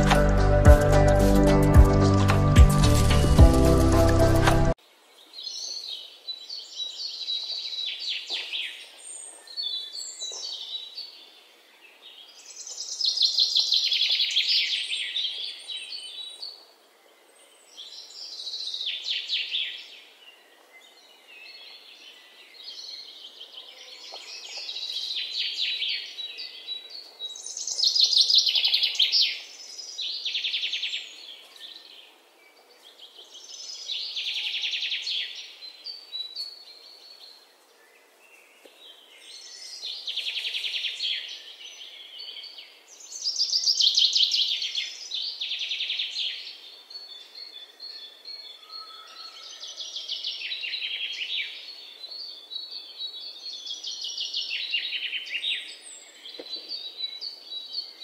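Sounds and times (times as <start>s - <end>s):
faint outdoor hiss: 0.0s - 58.0s.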